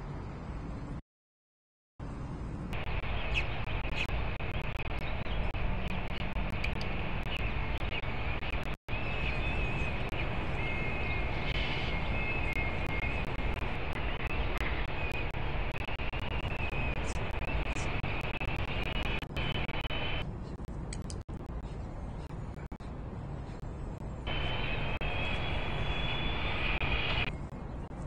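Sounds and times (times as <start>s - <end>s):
city traffic rumble: 0.0s - 1.0s, 2.0s - 28.0s.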